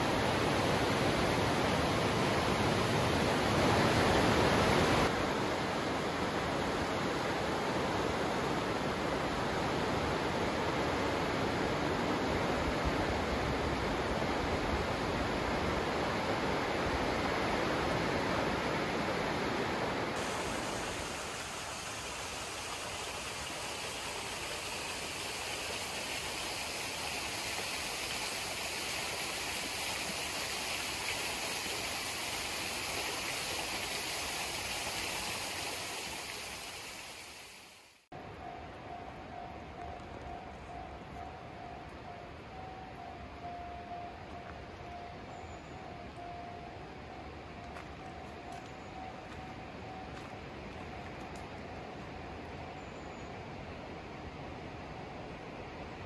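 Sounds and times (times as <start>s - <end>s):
river rushing: 0.0s - 52.2s.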